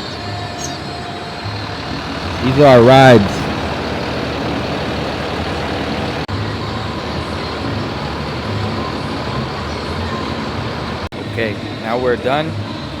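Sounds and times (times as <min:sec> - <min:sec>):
bus engine rumbling: 0:00.0 - 0:11.7.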